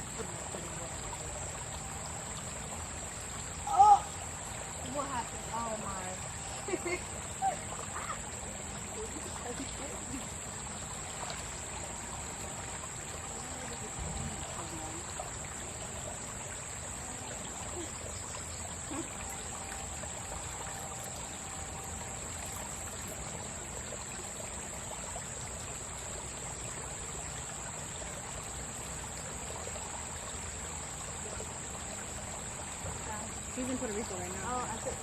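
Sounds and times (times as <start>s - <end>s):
stream running over rocks: 0.0s - 35.0s.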